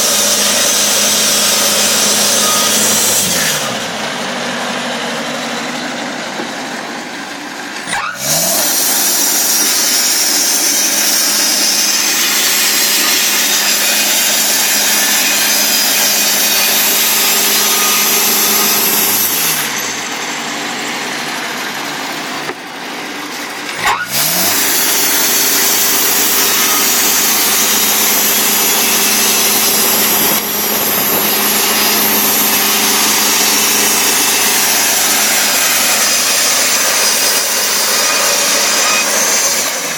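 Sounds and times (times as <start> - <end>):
saw rushing noise: 0.0 - 39.9
sawmill engine revving: 0.0 - 39.9.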